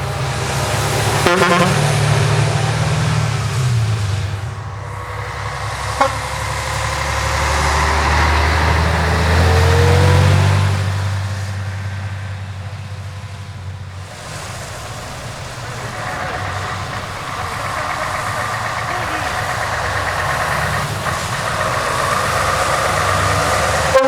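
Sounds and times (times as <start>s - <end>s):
truck diesel engine driving past: 0.0s - 24.0s.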